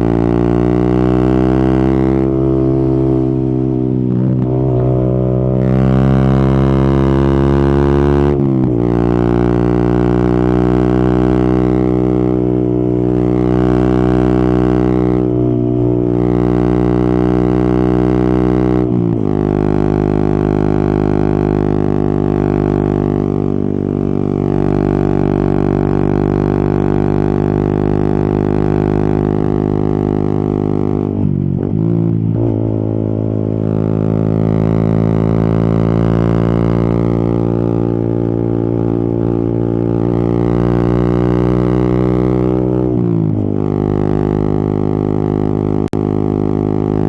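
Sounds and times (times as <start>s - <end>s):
motorcycle engine droning: 0.0s - 47.0s.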